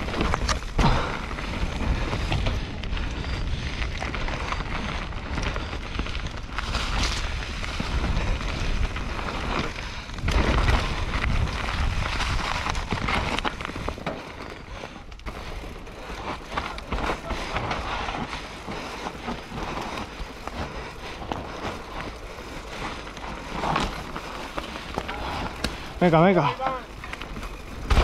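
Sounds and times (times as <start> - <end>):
bike clicking and rattling: 0.0 - 28.0
bike tyres on dirt: 0.0 - 28.0.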